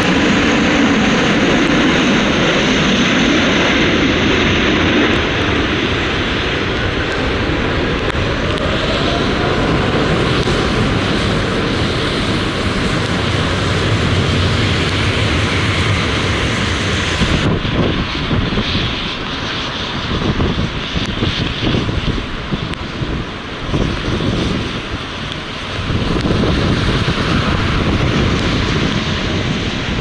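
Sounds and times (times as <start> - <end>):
jet engines rushing: 0.0 - 30.0
wind buffeting microphone: 0.0 - 30.0.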